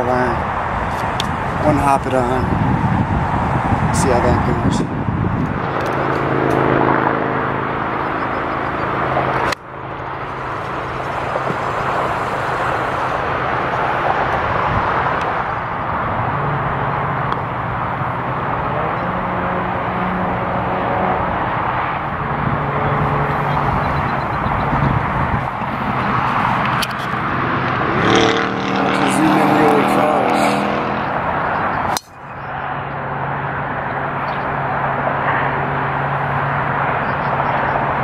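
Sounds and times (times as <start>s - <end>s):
distant traffic rumble: 0.0s - 38.0s.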